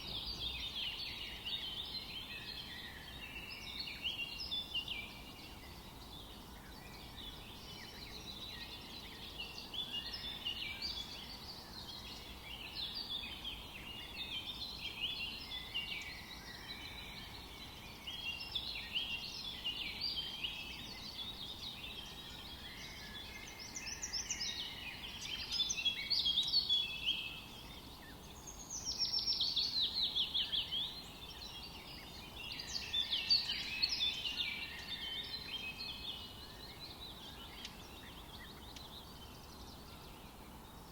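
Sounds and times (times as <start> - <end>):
loud birdsong: 0.0 - 40.9
small birds chirping: 0.0 - 40.9.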